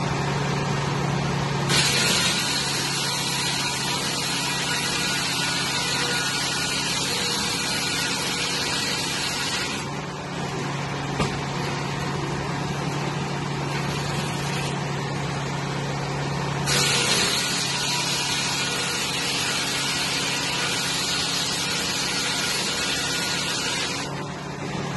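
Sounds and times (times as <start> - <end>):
circular sawmill running: 0.0 - 24.9.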